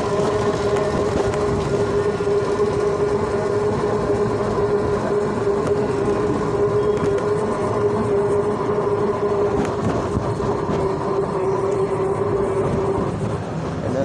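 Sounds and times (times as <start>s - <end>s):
motor whine: 0.0s - 13.8s
rumble and rattle of the ride: 0.0s - 14.0s.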